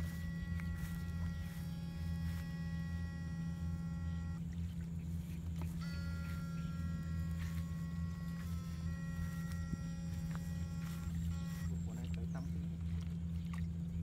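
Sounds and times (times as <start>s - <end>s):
low electrical hum: 0.0s - 14.0s
thin whining tones: 0.0s - 14.0s.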